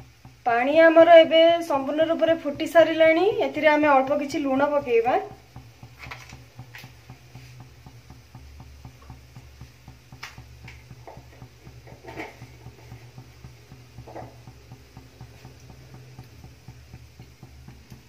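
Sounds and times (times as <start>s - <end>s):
gas burner hum: 0.0s - 18.0s
water boiling with bubbling pops: 0.0s - 18.0s.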